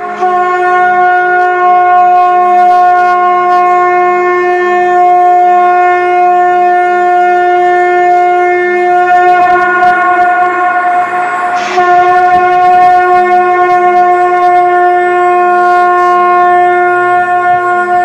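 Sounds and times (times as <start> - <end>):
conch shell blown: 0.0 - 18.0.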